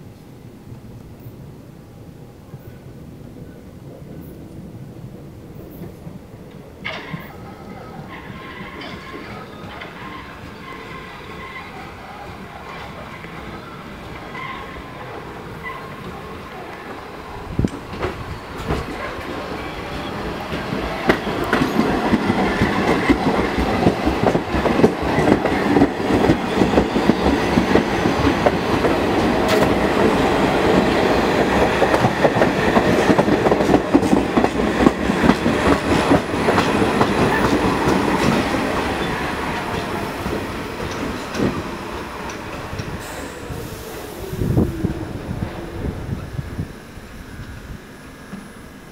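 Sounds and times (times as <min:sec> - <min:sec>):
subway train passing: 0:00.0 - 0:48.9.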